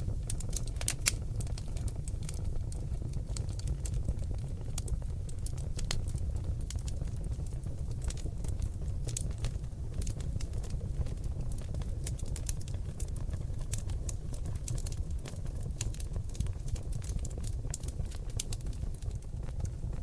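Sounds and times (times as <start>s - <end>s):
fire low rumble: 0.0s - 20.0s
logs crackling and popping in fire: 0.0s - 20.0s.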